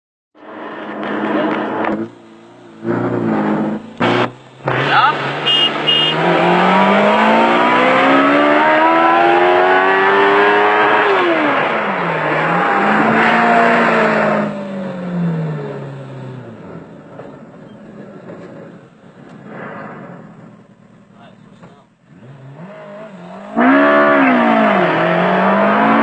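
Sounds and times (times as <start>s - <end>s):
race car engines accelerating: 0.4s - 26.0s.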